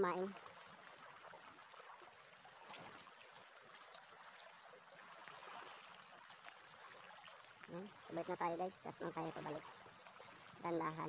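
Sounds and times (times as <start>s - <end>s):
insects buzzing: 0.0s - 11.0s
small waves lapping on rocks: 0.0s - 11.0s.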